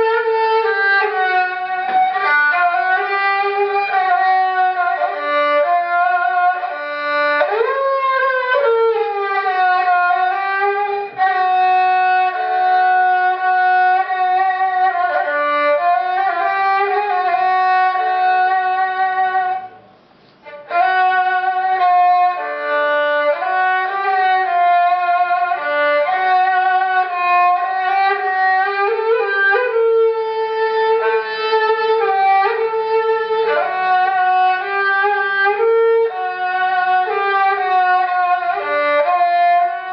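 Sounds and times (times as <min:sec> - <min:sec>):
bowed fiddle solo melody: 0:00.0 - 0:19.8, 0:20.4 - 0:39.9.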